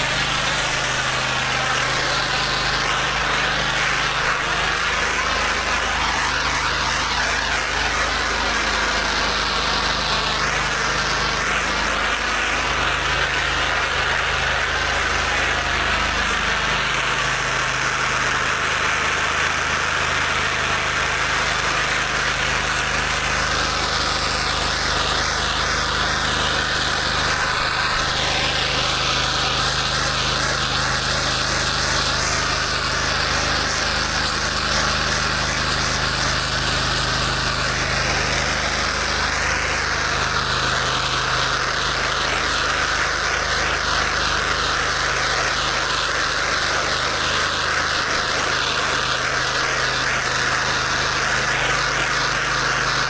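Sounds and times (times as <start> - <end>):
high-pressure water spraying: 0.0 - 53.0
pressure washer engine running: 0.0 - 53.0.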